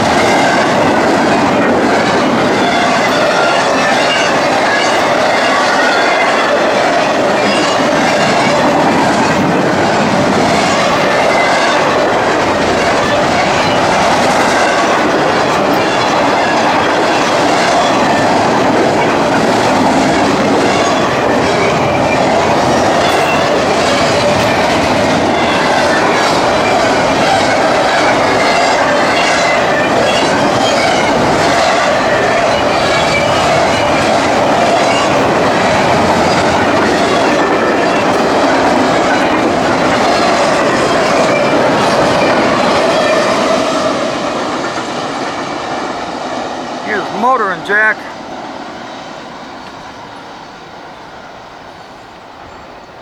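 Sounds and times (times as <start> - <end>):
clickety-clack of wheels: 0.0 - 46.8
train wheels rushing on rail: 0.0 - 53.0.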